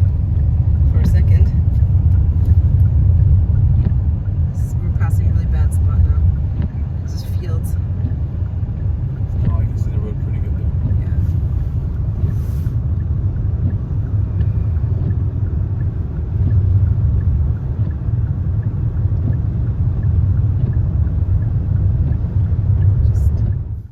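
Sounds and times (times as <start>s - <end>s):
road and engine rumble in car: 0.0s - 23.9s.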